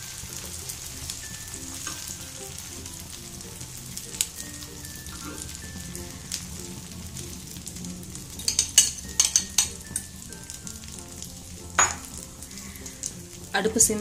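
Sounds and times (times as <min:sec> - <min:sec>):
omelette sizzling in oil: 0:00.0 - 0:14.0.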